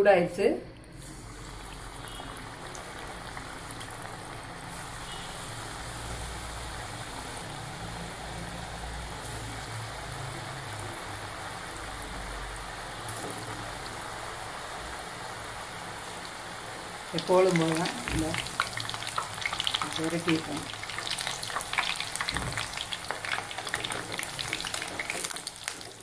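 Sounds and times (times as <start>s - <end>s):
dough sizzling in hot oil: 0.9s - 26.0s.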